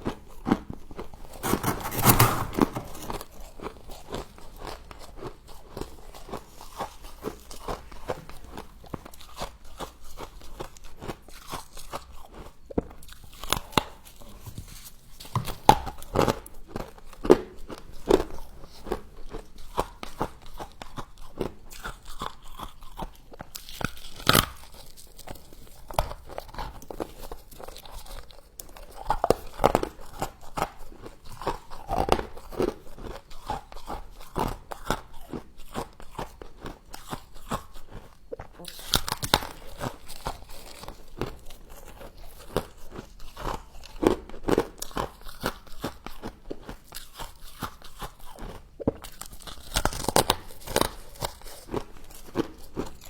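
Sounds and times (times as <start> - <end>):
chewing crunchy frost: 1.3 - 15.2, 17.8 - 53.0.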